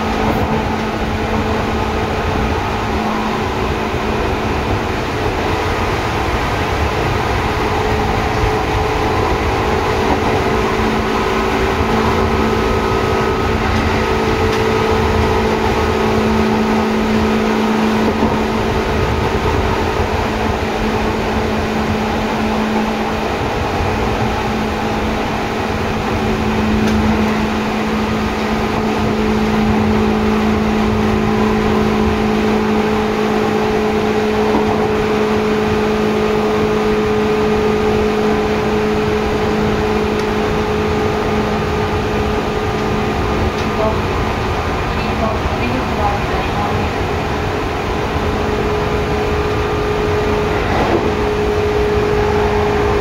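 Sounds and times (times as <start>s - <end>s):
steady droning hum: 0.0s - 53.0s
train wheels rumbling on rail: 0.0s - 53.0s.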